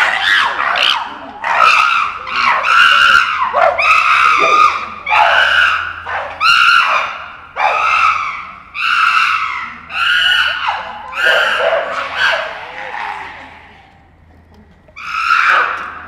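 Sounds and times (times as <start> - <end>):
chimpanzees screaming: 0.0 - 13.9, 15.0 - 16.0.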